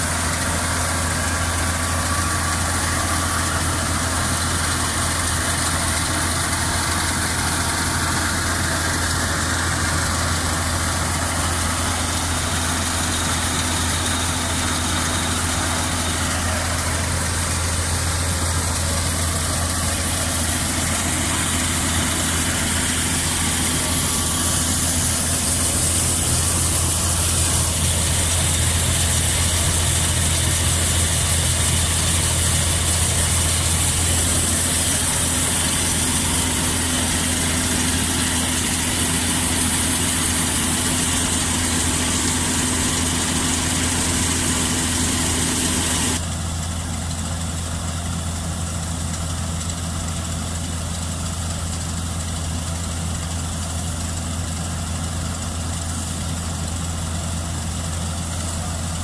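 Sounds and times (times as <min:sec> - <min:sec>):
high hiss of grain unloading: 0:00.0 - 0:46.2, 0:52.6 - 0:59.0
combine harvester engine hum: 0:00.0 - 0:59.0.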